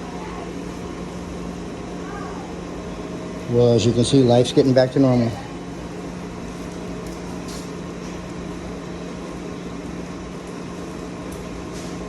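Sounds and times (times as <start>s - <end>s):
motor humming steadily: 0.0s - 12.0s.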